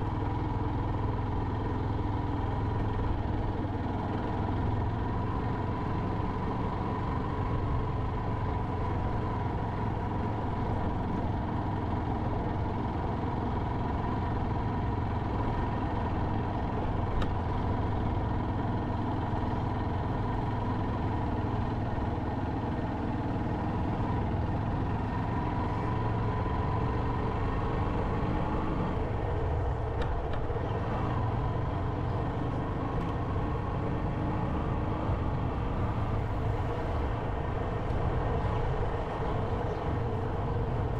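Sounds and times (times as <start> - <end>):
motorcycle engine running: 0.0 - 40.9
road noise: 0.0 - 40.9.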